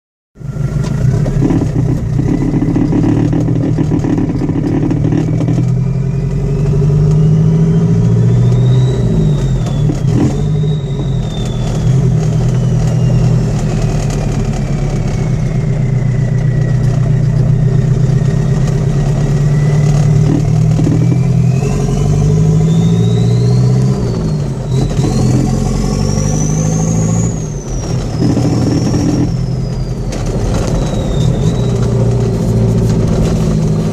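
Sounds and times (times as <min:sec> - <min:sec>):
diesel engine running: 0:00.4 - 0:33.9
turbo whistle: 0:01.4 - 0:18.5, 0:19.2 - 0:32.8.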